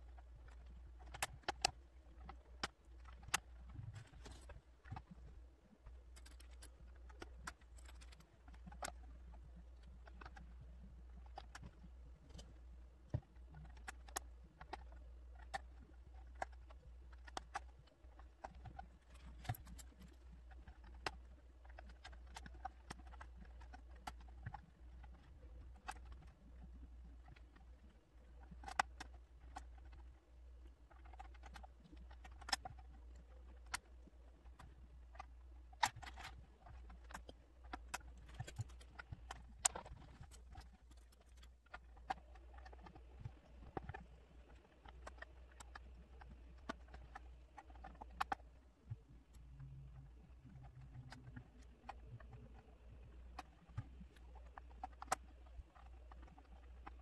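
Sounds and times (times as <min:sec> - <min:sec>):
steady low hum: 0:00.0 - 0:57.0
plastic puzzle pieces clicking: 0:00.1 - 0:05.1, 0:05.9 - 0:57.0.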